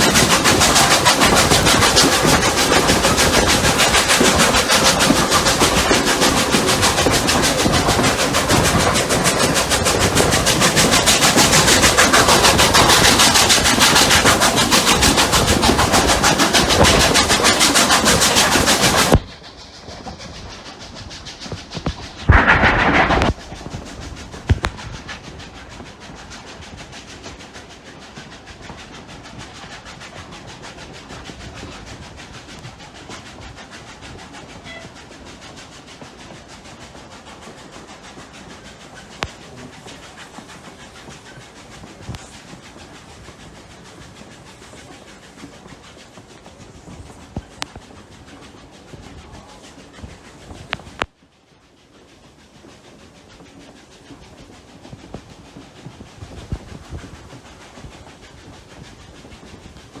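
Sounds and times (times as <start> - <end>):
steam train rhythmic beat: 0.0 - 60.0.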